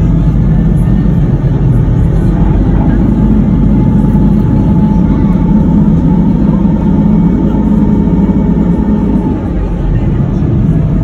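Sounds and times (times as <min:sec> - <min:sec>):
ferry engine drone: 0:00.0 - 0:11.0.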